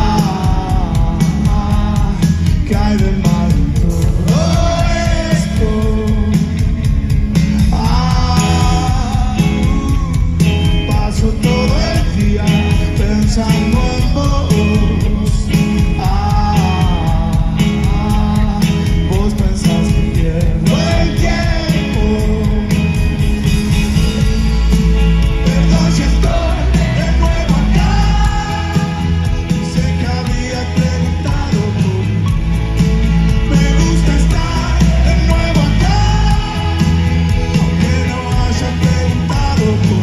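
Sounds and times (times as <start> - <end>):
person singing: 0.0 - 23.4, 24.1 - 32.6, 33.3 - 40.0
live rock band: 0.0 - 40.0.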